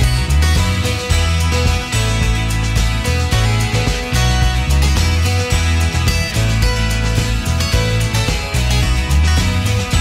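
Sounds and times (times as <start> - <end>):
music with bass line: 0.0 - 10.0.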